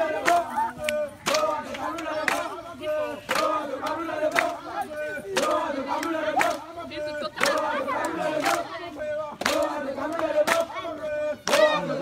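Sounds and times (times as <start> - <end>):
crowd of men chanting and shouting: 0.0 - 12.0.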